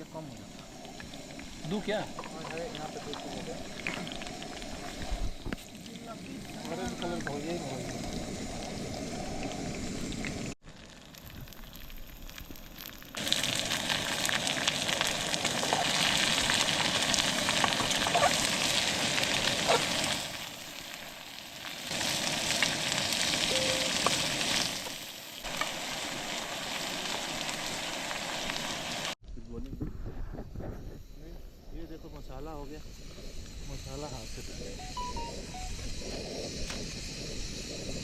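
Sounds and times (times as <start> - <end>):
spices sizzling in a pan: 0.0 - 29.2, 32.3 - 38.0.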